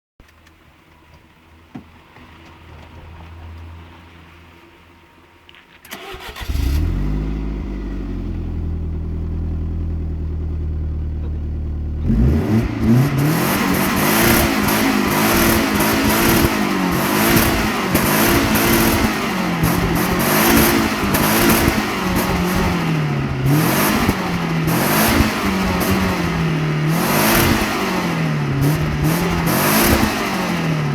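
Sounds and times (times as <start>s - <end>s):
car engine starting and revving: 5.8s - 30.9s.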